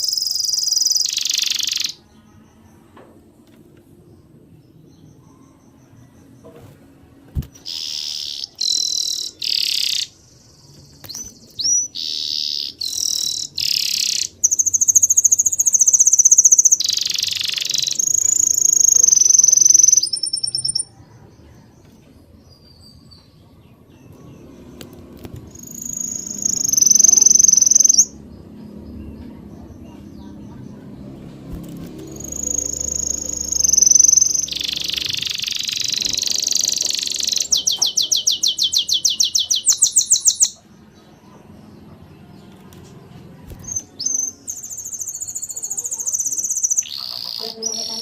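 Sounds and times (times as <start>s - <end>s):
songbirds chirping and singing: 0.0s - 48.0s.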